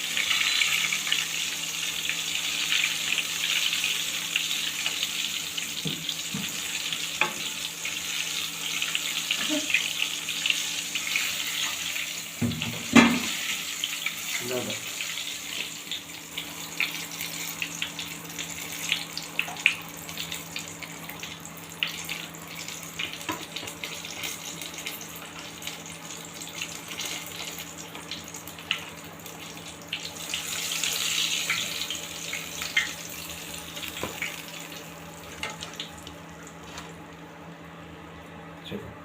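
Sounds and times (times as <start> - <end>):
chicken deep-frying in hot oil: 0.0 - 37.7.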